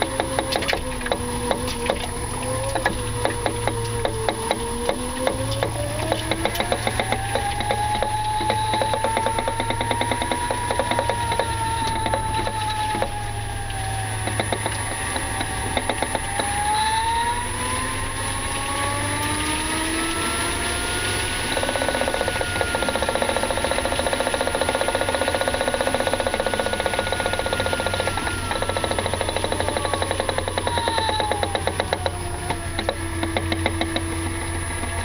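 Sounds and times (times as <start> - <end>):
electric drive whine: 0.0 - 35.0.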